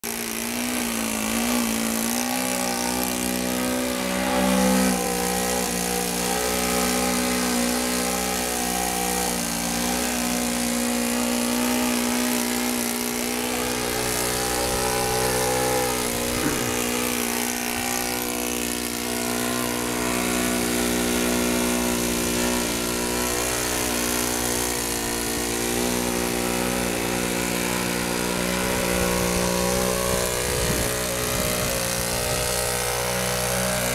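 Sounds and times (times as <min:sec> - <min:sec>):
model airplane engine droning: 0:00.0 - 0:33.9.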